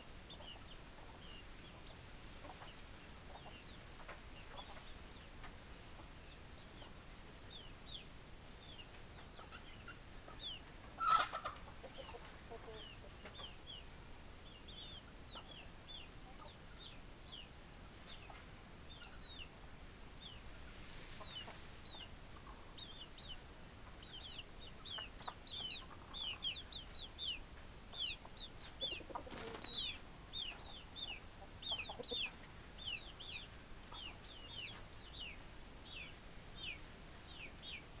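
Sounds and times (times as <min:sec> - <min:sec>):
chicks peeping: 0:00.2 - 0:19.6, 0:20.2 - 0:38.0
chicken clucking: 0:00.3 - 0:08.0, 0:08.6 - 0:13.8, 0:14.7 - 0:17.4, 0:20.2 - 0:37.8.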